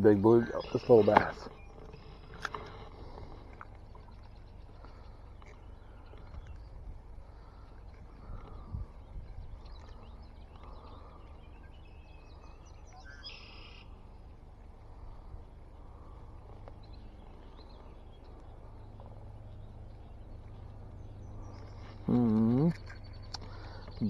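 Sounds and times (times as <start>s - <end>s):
faint birdsong: 0.0s - 24.0s
low steady rumble: 0.0s - 24.0s.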